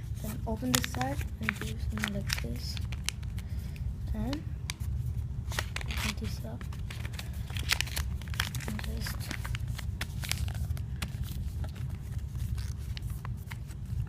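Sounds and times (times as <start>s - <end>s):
paper crinkling and crackling: 0.0s - 14.0s
steady low hum: 0.0s - 14.0s.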